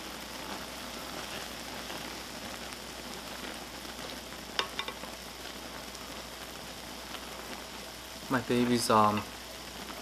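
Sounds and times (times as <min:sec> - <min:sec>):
pot of noodles boiling: 0:00.0 - 0:10.0.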